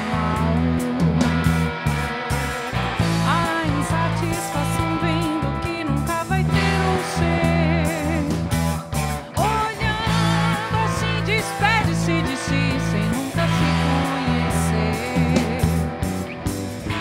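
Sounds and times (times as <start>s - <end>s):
drum kit: 0.0s - 17.0s
electric bass: 0.0s - 17.0s
electric guitars: 0.0s - 17.0s.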